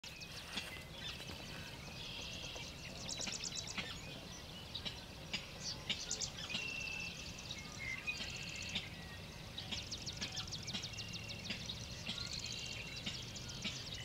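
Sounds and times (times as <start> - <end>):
marsh birds calling: 0.0 - 14.0.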